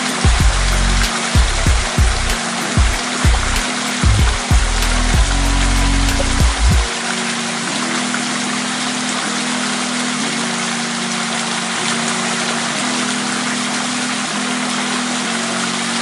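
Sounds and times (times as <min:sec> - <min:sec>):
background music: 0:00.0 - 0:16.0
stream water flowing: 0:00.0 - 0:16.0.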